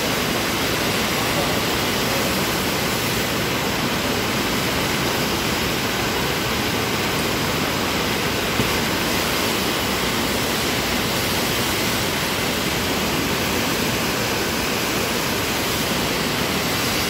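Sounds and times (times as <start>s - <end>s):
rushing pumped water: 0.0s - 17.0s.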